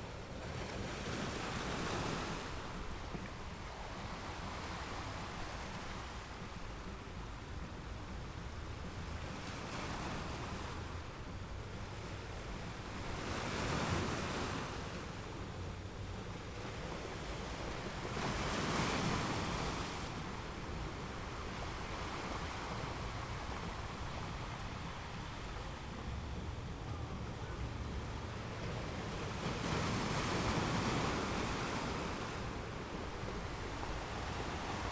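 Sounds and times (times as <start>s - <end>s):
sea water washing past ship: 0.0s - 34.9s.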